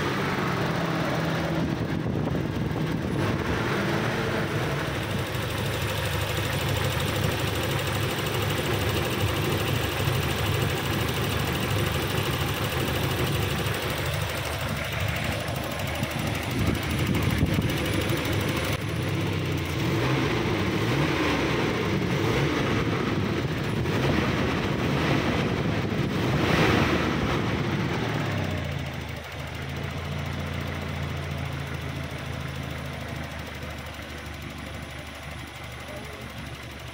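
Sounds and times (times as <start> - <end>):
rough engine running: 0.0 - 36.9.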